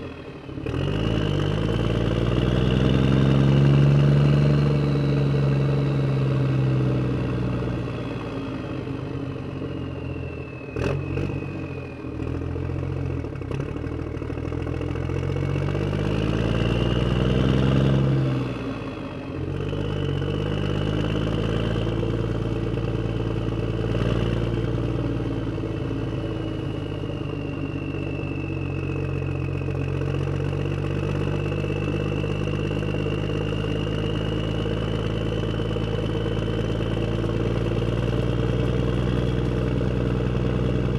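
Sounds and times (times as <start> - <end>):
motor vehicle engine revving: 0.0 - 9.0, 10.8 - 40.9.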